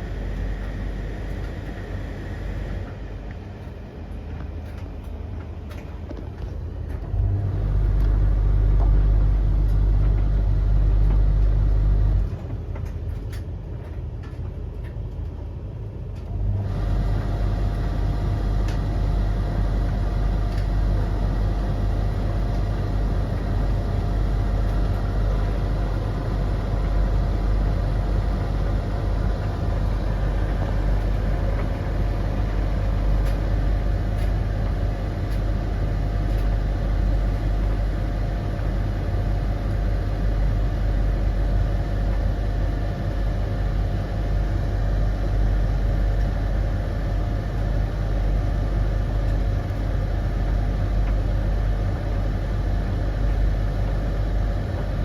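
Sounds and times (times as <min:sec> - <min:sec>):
steady whine: 0:00.0 - 0:13.5, 0:16.2 - 0:55.0
tumble dryers humming: 0:00.0 - 0:55.0.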